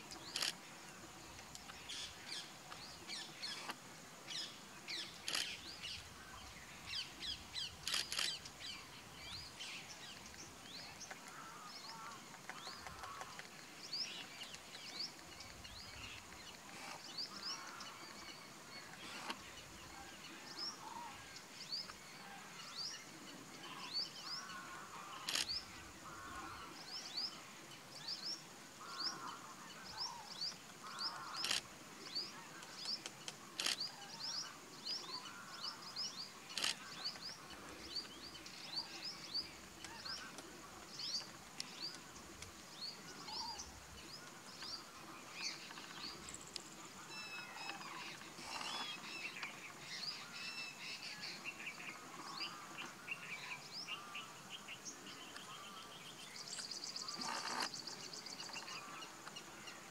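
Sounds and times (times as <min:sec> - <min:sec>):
lower bird calls: 0:00.0 - 0:59.9
small birds chirping: 0:00.0 - 0:59.9.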